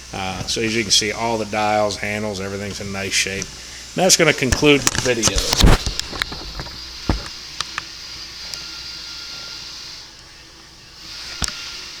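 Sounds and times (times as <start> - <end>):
faint background hum and hiss: 0.0 - 12.0.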